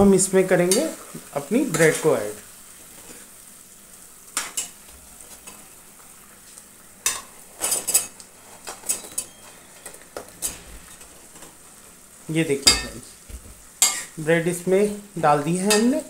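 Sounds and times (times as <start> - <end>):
syrup bubbling and sizzling: 0.0 - 16.0.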